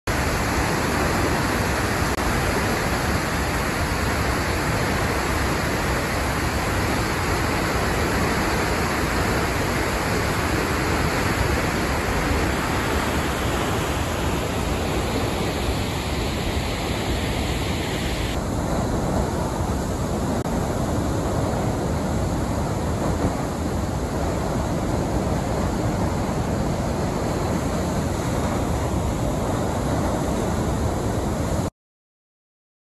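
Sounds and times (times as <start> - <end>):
waterfall roaring onto rocks: 0.1 - 31.7.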